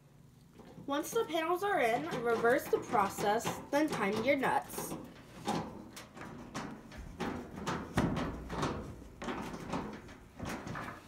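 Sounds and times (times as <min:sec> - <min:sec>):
metal panels knocking and clunking: 0:00.6 - 0:11.0.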